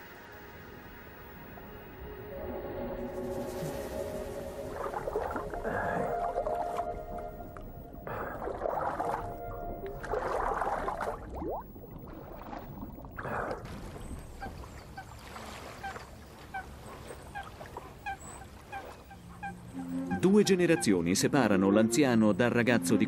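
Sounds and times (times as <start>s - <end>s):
water splashing and churning: 0.0s - 20.4s.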